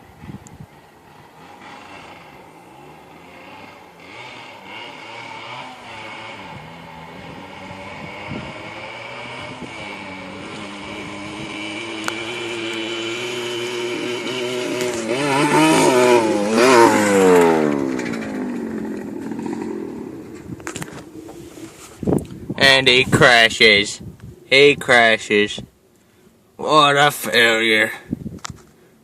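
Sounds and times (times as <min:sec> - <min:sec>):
dirt bike engine revving: 0:00.7 - 0:25.6.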